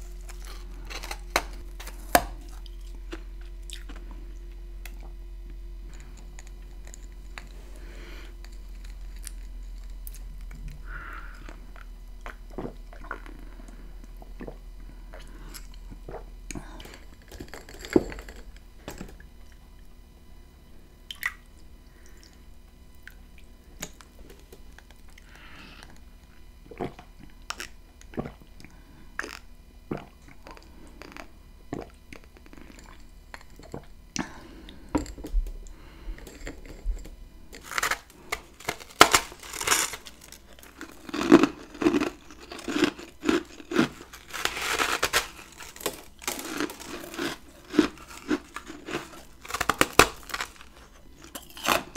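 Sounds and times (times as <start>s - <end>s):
chewing crunchy ice: 0.0s - 19.6s, 23.0s - 51.9s.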